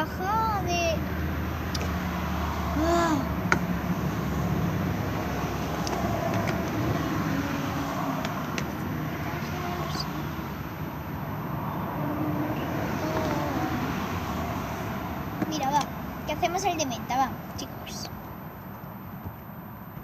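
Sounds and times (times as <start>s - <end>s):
traffic background noise: 0.0s - 20.0s.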